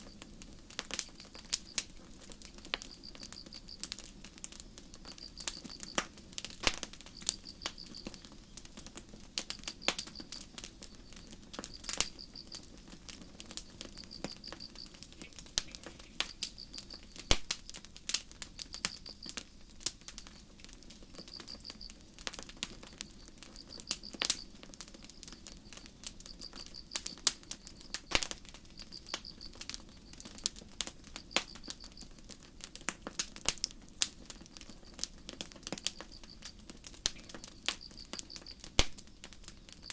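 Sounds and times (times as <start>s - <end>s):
crickets chirping: 0.0s - 17.7s, 18.5s - 32.2s, 33.6s - 39.9s
campfire crackling and popping: 0.0s - 39.9s.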